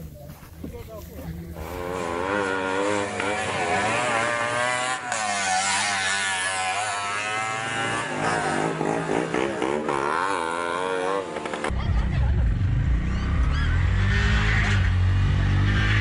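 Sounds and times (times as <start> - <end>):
small engines revving: 1.6 - 16.0.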